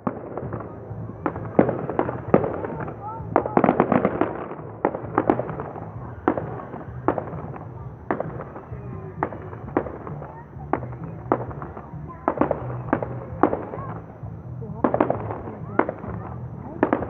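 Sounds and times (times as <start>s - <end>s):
fireworks bangs with echo: 0.0s - 17.0s.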